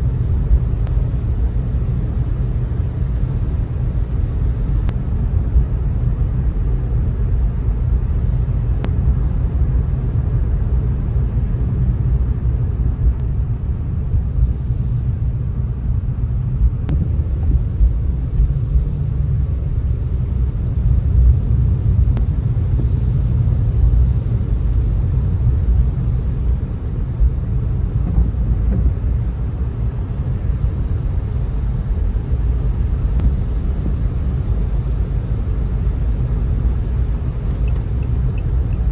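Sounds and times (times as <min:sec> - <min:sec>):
car driving on wet road: 0:00.0 - 0:38.9.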